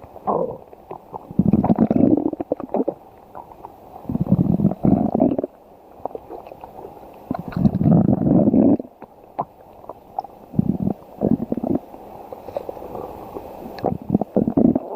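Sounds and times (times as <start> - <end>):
stomach growling: 0.1 - 14.9.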